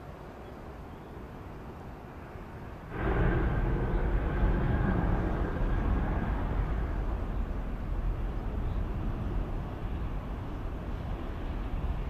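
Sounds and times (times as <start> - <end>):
faint high engine whine: 0.0 - 12.0
jet engines low rumble: 0.0 - 12.0.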